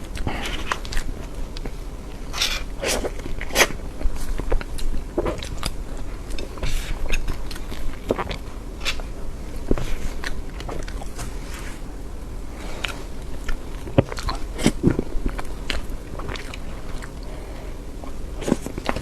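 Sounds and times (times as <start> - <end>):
wet mouth chewing clicks: 0.0 - 11.4, 12.7 - 19.0.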